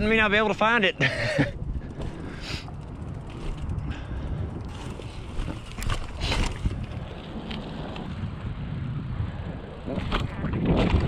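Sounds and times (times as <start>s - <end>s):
bike tyre and frame rumble: 0.0s - 11.0s
wind buffeting microphone: 0.0s - 11.0s.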